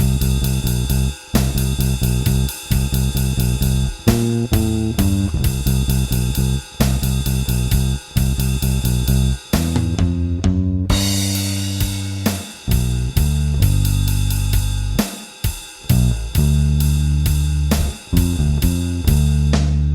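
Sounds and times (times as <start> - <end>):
electric bass guitar blues riff: 0.0 - 15.0, 15.9 - 19.9
rock drum kit: 0.0 - 19.9.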